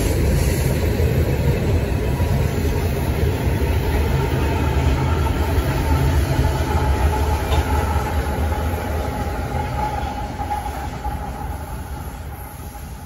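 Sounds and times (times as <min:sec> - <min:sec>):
diesel locomotive engine rumbling: 0:00.0 - 0:13.0
freight cars rolling on rails: 0:00.0 - 0:13.0.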